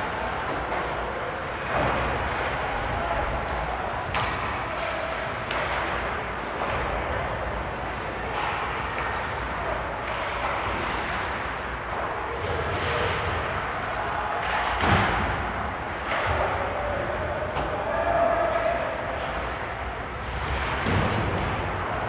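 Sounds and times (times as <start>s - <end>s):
skates and sticks on ice: 0.0s - 22.0s.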